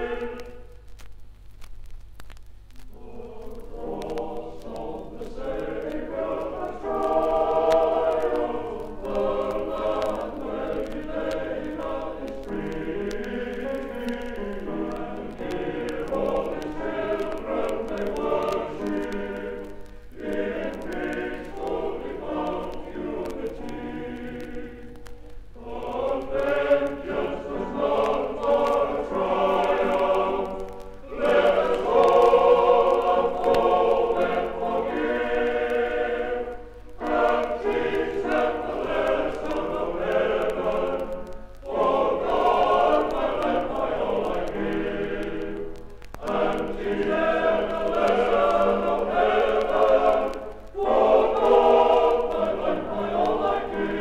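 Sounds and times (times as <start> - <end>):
male choir singing in harmony: 0.0 - 0.6, 3.0 - 25.0, 25.6 - 54.0.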